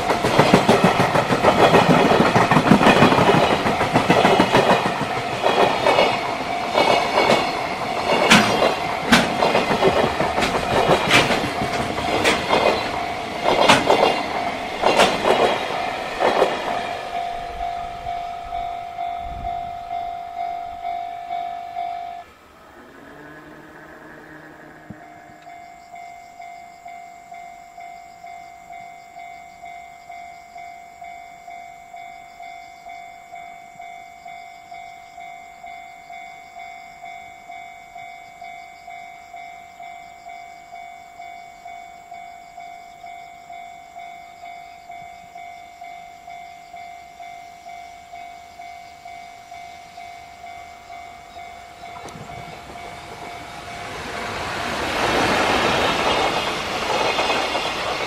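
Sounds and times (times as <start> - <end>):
approaching freight train rumble: 0.0 - 58.0.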